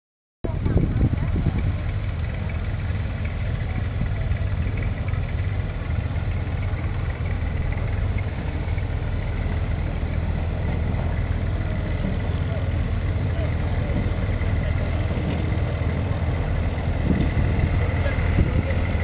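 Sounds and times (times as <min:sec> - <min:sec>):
tractor engine idling: 0:00.4 - 0:19.0.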